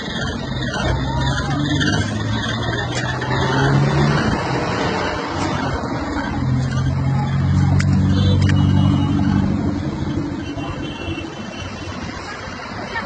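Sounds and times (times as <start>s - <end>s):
heavy vehicle engine droning: 0.0s - 13.0s.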